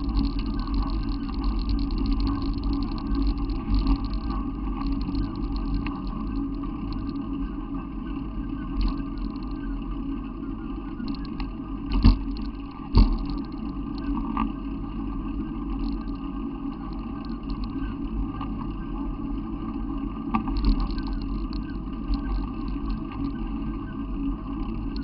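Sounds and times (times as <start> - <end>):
vehicle low rumble: 0.0 - 25.0.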